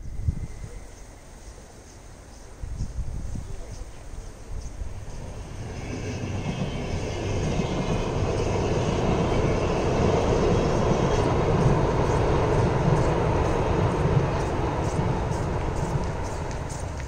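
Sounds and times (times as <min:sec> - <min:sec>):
train rumbling across steel bridge: 0:00.0 - 0:17.0.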